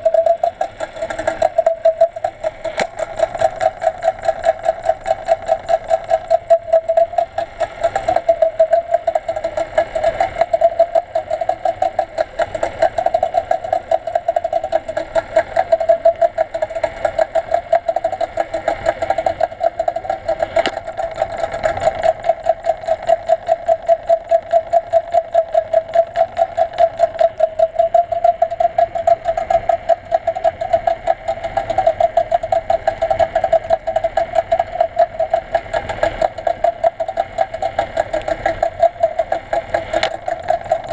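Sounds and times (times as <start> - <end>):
small engine humming underwater: 0.0 - 40.9.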